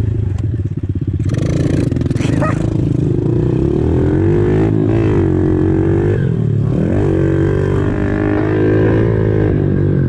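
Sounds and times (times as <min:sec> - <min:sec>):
pit bike engine revving: 0:00.0 - 0:10.0.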